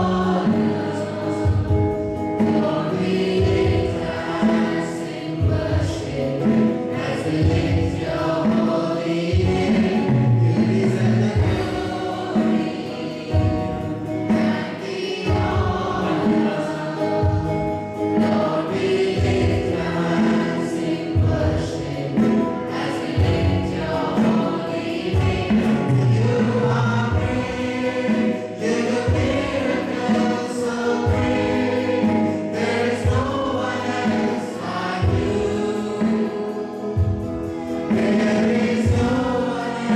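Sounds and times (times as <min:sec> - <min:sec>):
choir singing worship song: 0:00.0 - 0:39.9
instrumental accompaniment with beat: 0:00.0 - 0:39.9.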